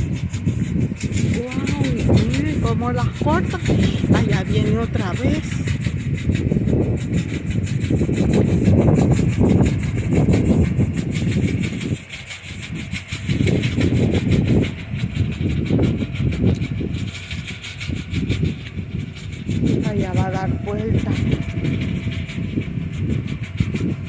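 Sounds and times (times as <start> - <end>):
fast even clicking: 0.0 - 24.0
harvester rumbling: 0.0 - 24.0.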